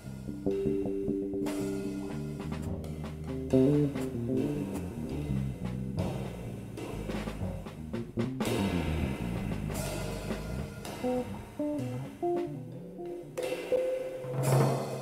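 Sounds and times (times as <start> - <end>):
cymbal and drum accents: 0.0 - 15.0
drum kit: 0.0 - 15.0
electric bass jazz line: 0.0 - 15.0.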